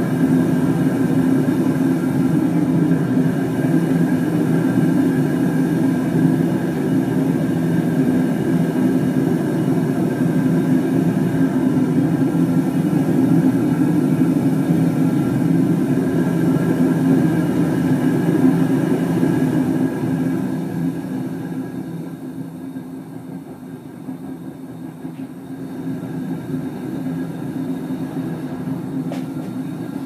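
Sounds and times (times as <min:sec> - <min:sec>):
gas burner roaring: 0:00.0 - 0:23.0, 0:24.4 - 0:30.0.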